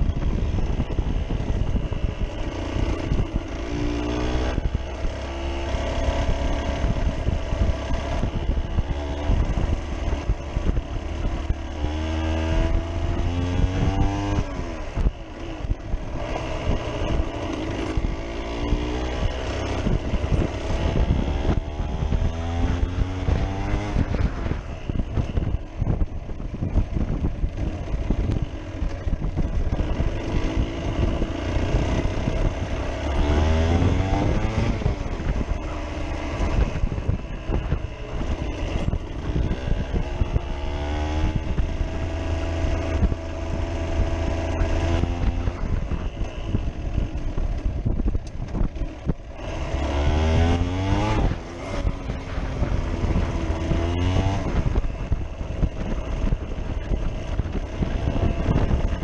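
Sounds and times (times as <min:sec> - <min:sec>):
motorcycle engine revving through gears: 0:00.0 - 0:59.0
wind buffeting microphone: 0:00.0 - 0:59.0.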